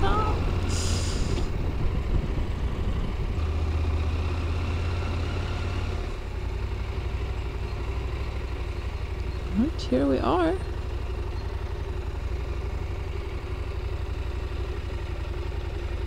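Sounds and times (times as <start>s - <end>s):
motorcycle engine running slowly: 1.4s - 16.0s.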